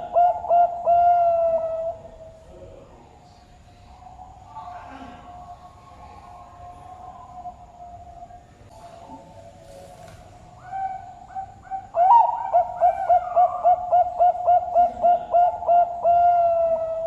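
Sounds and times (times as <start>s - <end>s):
dove cooing: 0.0s - 2.4s, 3.8s - 17.0s.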